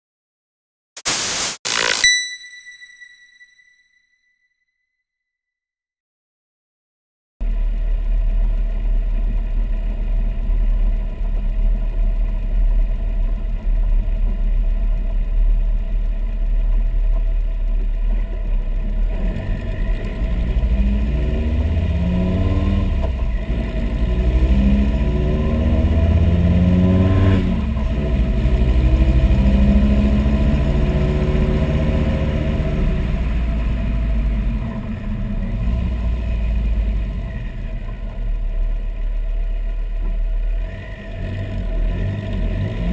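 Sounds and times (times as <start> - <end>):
car engine idling and revving: 7.4 - 42.9.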